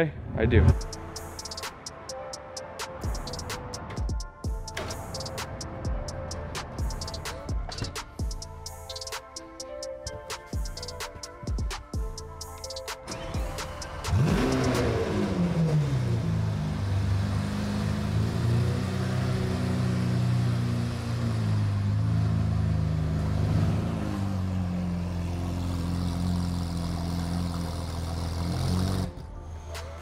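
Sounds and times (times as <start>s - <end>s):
car engine starting and idling: 0.7s - 9.2s, 10.1s - 30.0s.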